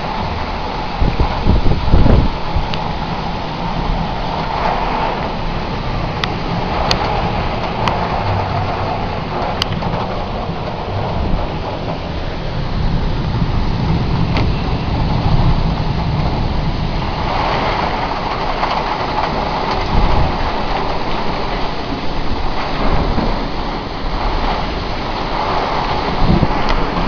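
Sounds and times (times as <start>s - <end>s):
heavy rain hissing: 0.0s - 27.0s
wind gusts buffeting microphone: 0.0s - 27.0s.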